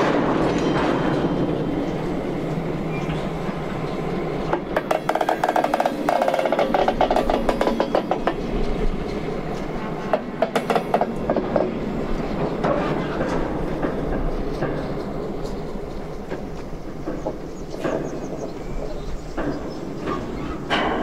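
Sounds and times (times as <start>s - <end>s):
railway wheels rumbling: 0.0s - 21.0s.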